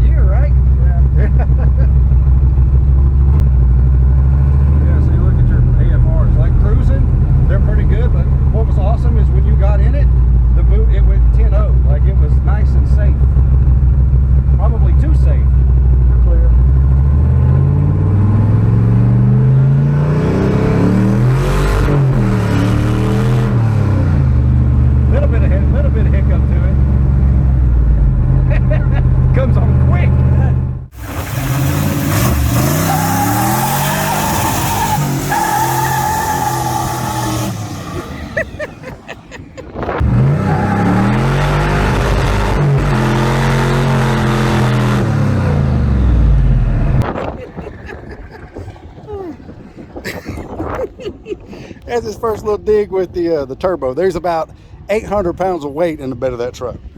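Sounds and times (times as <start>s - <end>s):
truck engine accelerating hard: 0.0s - 52.4s.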